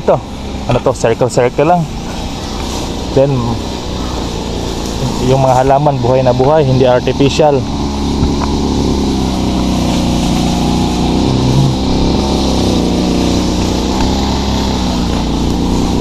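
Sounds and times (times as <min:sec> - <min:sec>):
engine-like drone: 0:00.0 - 0:16.0.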